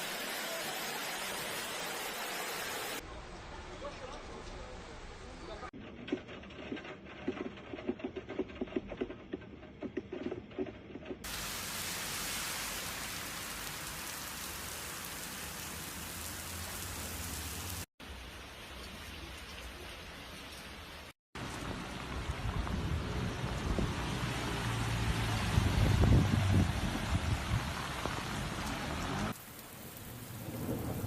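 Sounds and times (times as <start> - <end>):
heavy rain pouring: 0.0 - 5.2, 11.3 - 31.0.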